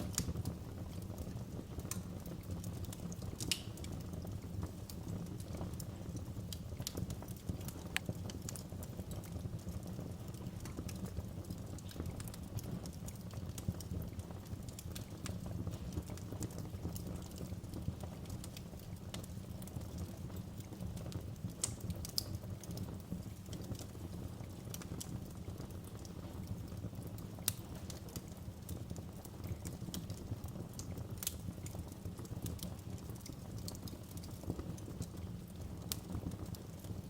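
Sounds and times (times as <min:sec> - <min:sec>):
fire crackles and pops: 0:00.0 - 0:37.0
fire flames rumbling: 0:00.0 - 0:37.0.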